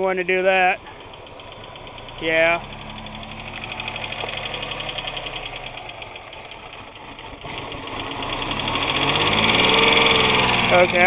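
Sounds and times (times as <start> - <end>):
car engine idling roughly with knocking: 0.0 - 11.0.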